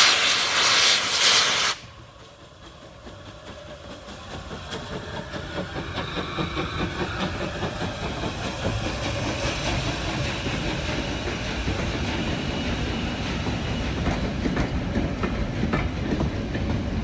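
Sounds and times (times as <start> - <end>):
steam locomotive chugging: 0.0 - 17.0.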